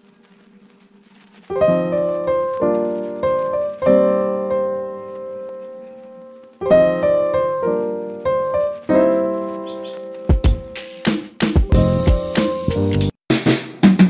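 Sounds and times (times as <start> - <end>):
piano chords: 1.5 - 13.1.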